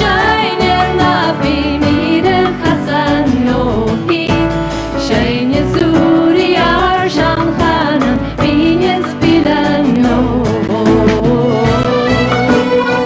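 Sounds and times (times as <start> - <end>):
woman singing: 0.0 - 12.1
folk band playing: 0.0 - 13.0.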